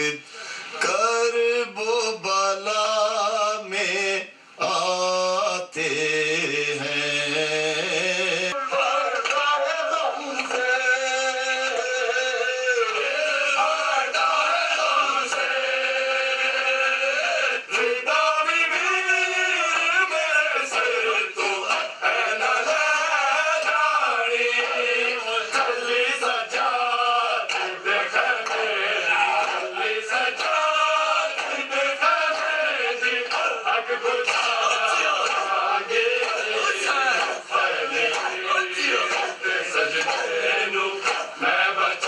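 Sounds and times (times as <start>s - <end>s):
men chanting a lament: 0.0s - 42.0s.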